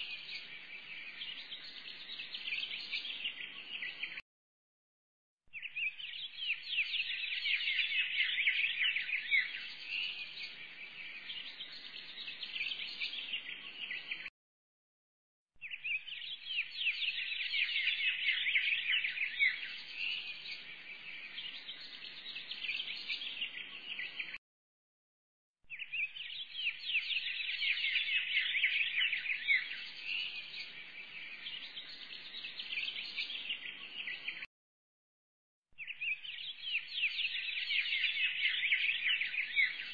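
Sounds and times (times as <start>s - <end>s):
small birds chirping: 0.0s - 4.2s, 5.5s - 14.3s, 15.6s - 24.4s, 25.7s - 34.5s, 35.8s - 39.9s.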